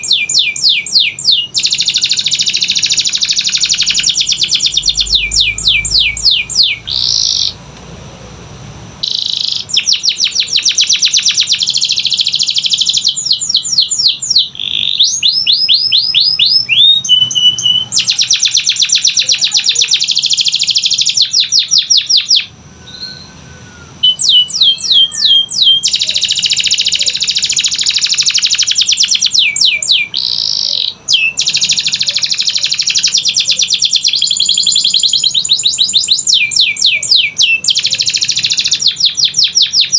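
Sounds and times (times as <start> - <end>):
canary singing trills: 0.0 - 7.6, 9.0 - 39.9.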